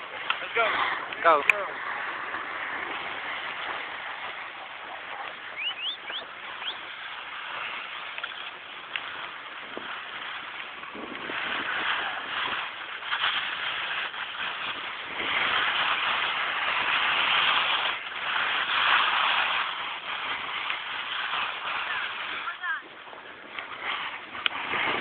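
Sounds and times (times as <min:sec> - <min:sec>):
snowboard edges scraping snow: 0:00.0 - 0:25.0
wind on microphone: 0:00.0 - 0:25.0.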